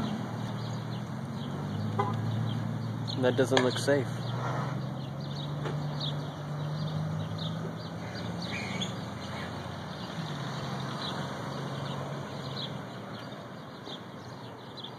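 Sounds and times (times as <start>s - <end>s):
small birds chirping: 0.0s - 14.9s
vehicle engine humming: 0.0s - 14.9s.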